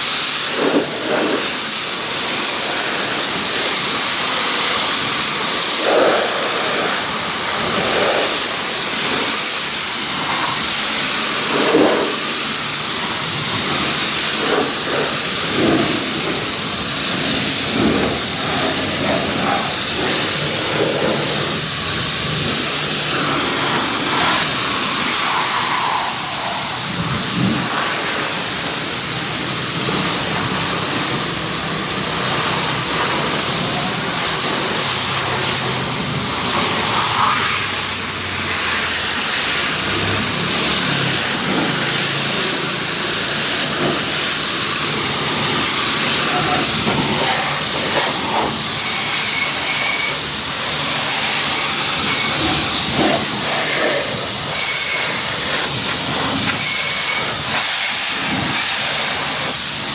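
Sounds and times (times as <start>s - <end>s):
pressure washer spraying: 0.0s - 59.9s.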